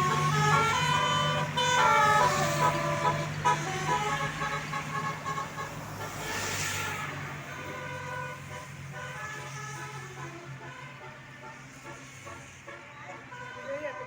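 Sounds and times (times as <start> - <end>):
bus engine humming: 0.0 - 13.5
multi-tone bus horn tune: 0.0 - 14.0.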